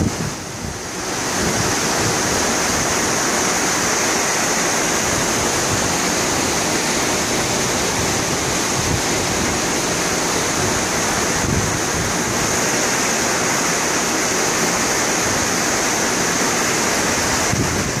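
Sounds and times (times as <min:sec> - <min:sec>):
rush of foaming water: 0:00.0 - 0:18.0
wind gusts on microphone: 0:00.0 - 0:18.0.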